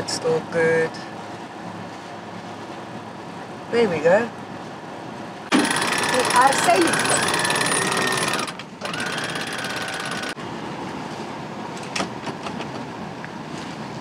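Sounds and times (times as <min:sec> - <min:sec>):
boat engines whining: 0:00.0 - 0:14.0.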